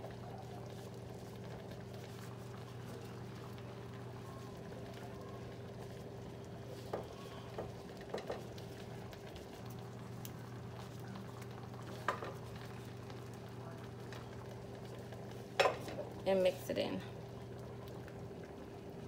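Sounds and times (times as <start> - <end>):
sauce bubbling in a skillet: 0.0 - 19.0.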